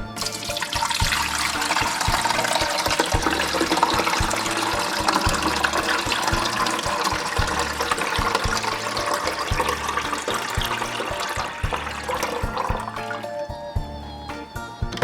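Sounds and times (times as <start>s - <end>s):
water pouring into reservoir: 0.2s - 13.3s.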